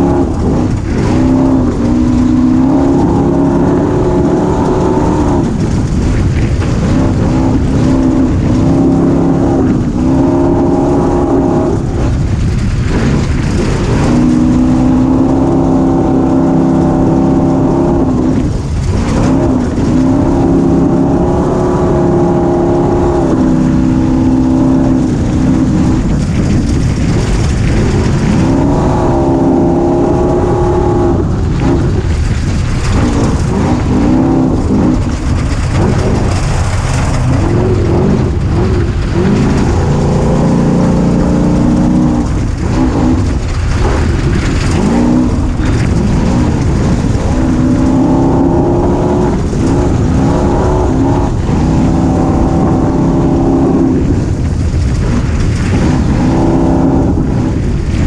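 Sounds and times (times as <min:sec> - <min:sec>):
engine revving under throttle: 0:00.0 - 0:58.0.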